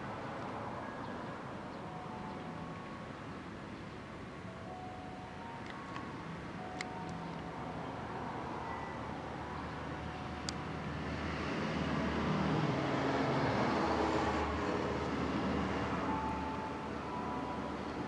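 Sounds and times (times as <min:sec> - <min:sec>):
vehicle rumble and road noise: 0:00.0 - 0:18.0.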